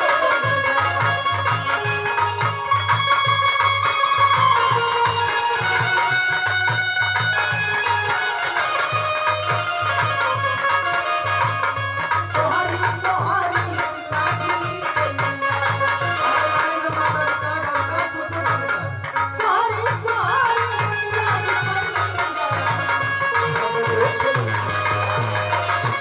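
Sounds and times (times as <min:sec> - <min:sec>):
hand drum beat: 0:00.0 - 0:16.2, 0:19.7 - 0:26.0.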